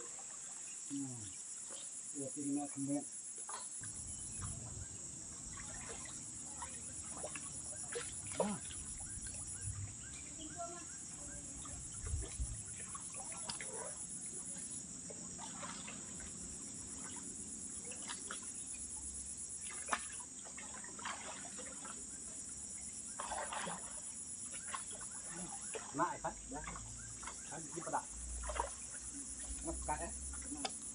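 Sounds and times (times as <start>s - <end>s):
insects chorus: 0.0s - 30.9s
people wading through water: 0.0s - 30.9s.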